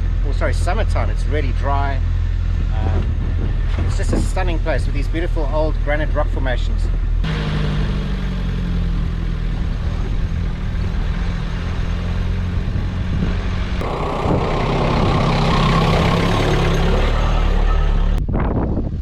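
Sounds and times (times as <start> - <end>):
truck engine humming: 0.0 - 18.2
tyre and road noise: 0.0 - 19.0.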